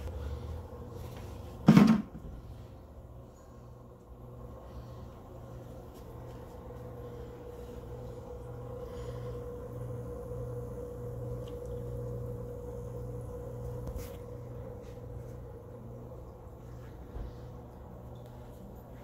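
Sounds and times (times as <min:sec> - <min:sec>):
aquarium equipment hum: 0:00.0 - 0:19.0.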